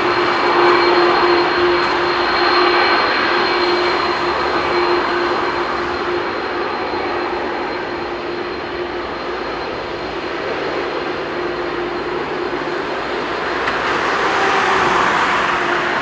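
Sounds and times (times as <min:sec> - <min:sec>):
faint high whine: 0:00.0 - 0:16.0
jet engines roaring: 0:00.0 - 0:16.0.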